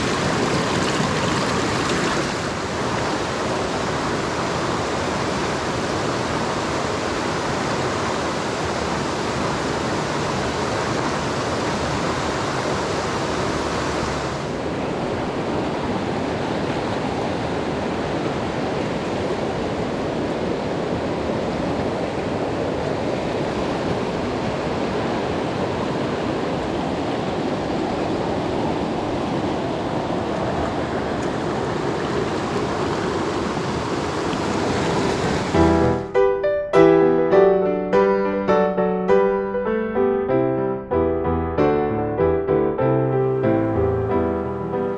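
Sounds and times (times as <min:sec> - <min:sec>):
stream rushing over rocks: 0:00.0 - 0:36.1.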